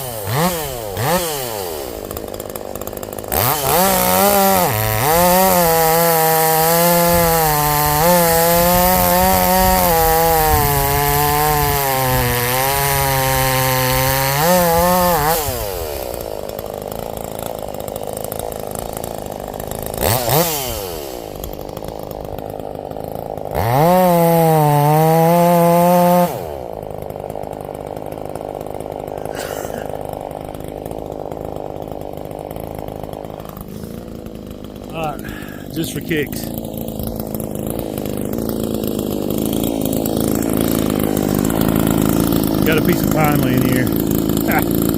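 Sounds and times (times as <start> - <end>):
chainsaw revving and idling: 0.0 - 44.9.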